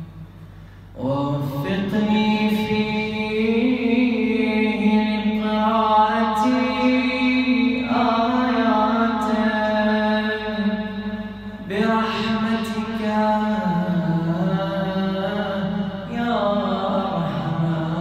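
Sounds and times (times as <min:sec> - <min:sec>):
man chanting: 0:01.0 - 0:18.0.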